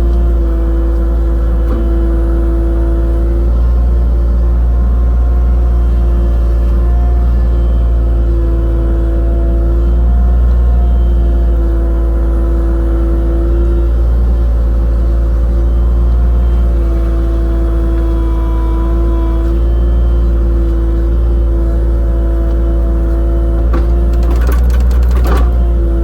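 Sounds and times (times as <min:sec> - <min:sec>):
excavator engine drone: 0:00.0 - 0:26.0.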